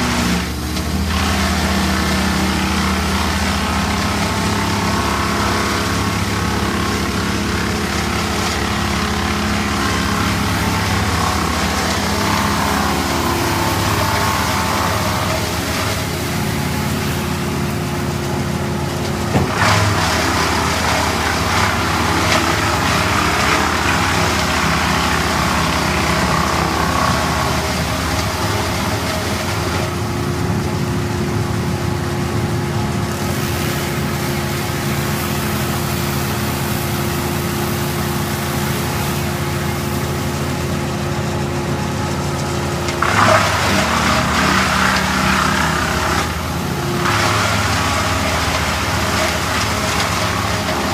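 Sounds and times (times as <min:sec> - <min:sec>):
engine running: 0:00.0 - 0:50.9
rough cutting noise: 0:00.0 - 0:50.9.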